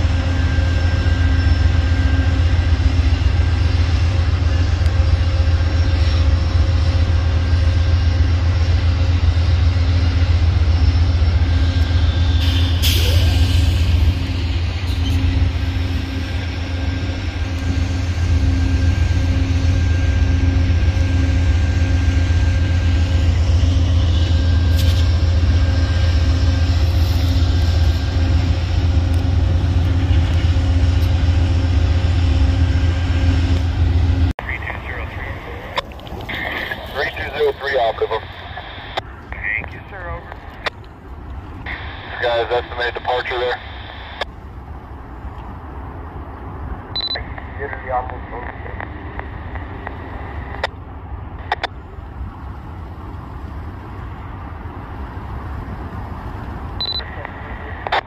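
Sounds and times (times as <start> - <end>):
diesel locomotive engine hum: 0.0 - 58.0.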